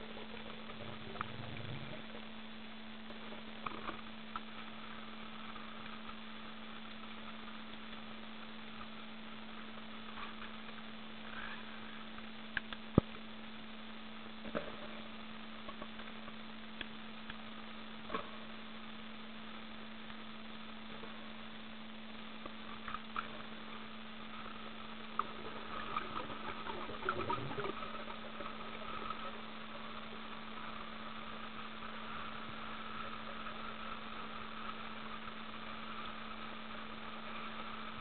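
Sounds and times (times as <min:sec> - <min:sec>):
underwater low hum: 0:00.0 - 0:38.0.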